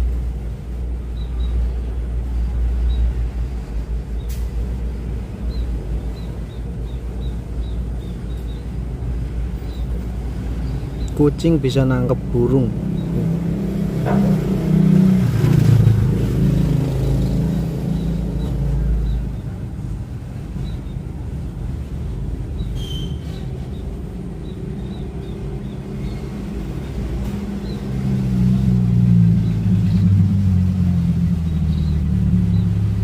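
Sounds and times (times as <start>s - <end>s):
motor engine rumbling: 0.0s - 33.0s.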